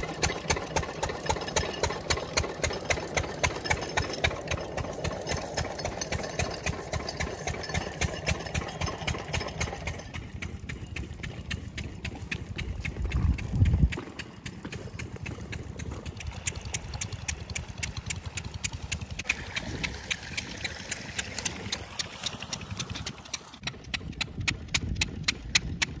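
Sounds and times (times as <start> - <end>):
diesel engine knocking: 0.0 - 26.0.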